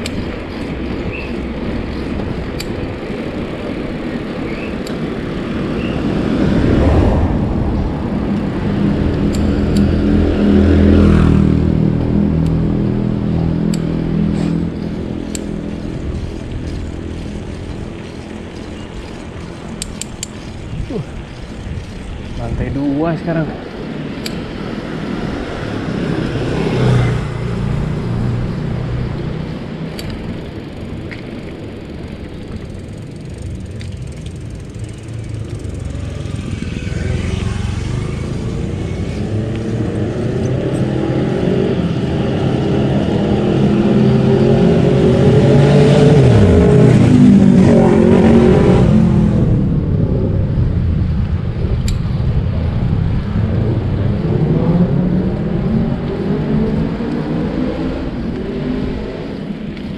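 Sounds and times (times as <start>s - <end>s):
motor vehicle passing: 0.0s - 59.9s
wind rumble on microphone: 0.0s - 59.9s.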